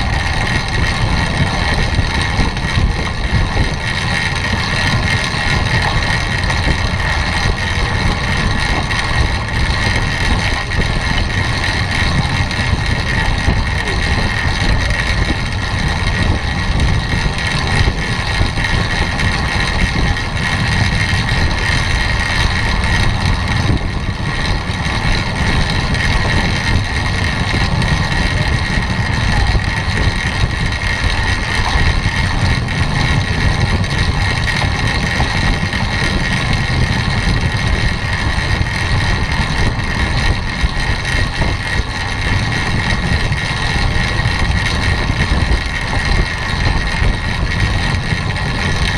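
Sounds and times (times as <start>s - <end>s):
bike tyres rolling on wooden boards: 0.0s - 48.9s
steady high whine: 0.0s - 48.9s
wind rushing on microphone: 0.0s - 48.9s.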